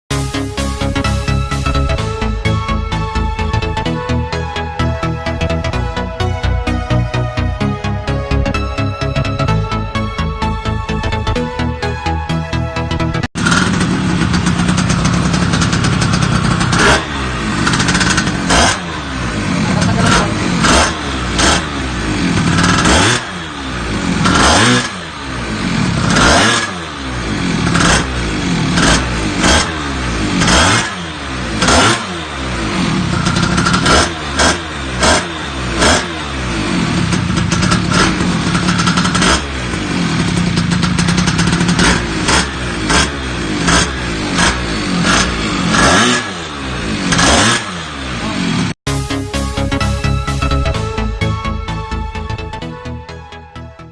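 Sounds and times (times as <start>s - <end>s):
scooter engine revving: 0.2s - 48.9s.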